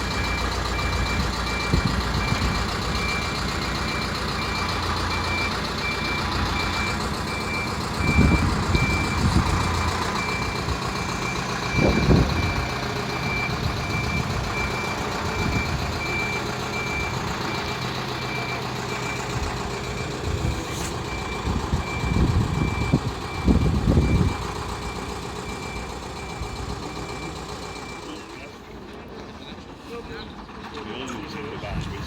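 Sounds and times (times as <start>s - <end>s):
reversing alarm beeping: 0.0s - 28.4s
low rumbles: 0.0s - 29.6s
engine running: 0.0s - 32.0s.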